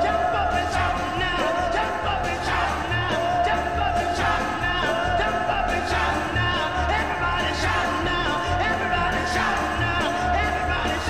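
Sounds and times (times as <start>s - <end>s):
rock music with sung vocal: 0.0s - 11.0s.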